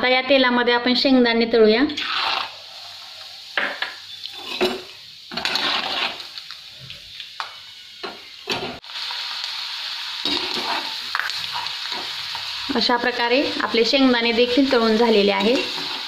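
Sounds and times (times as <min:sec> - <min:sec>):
peanuts sizzling in oil: 0:01.6 - 0:16.0.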